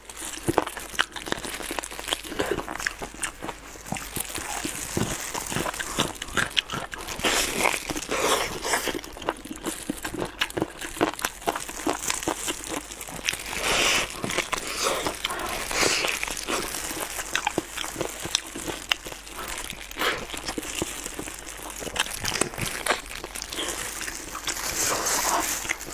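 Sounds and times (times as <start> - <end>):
plastic gloves crinkling: 0.0 - 25.9
wet chewing and lip smacking: 0.2 - 25.9.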